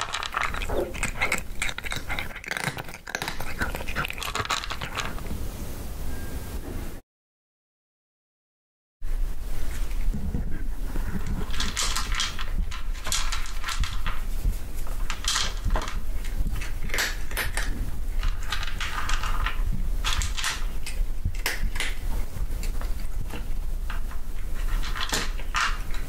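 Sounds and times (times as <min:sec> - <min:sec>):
cat crunching dry kibble: 0:00.0 - 0:05.3, 0:09.7 - 0:26.0.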